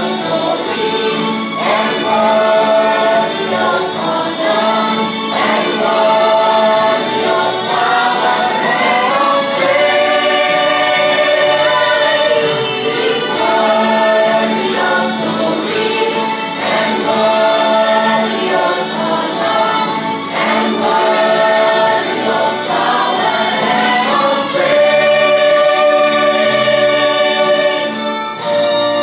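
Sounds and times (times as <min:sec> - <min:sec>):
choir singing a gospel hymn: 0:00.0 - 0:29.0.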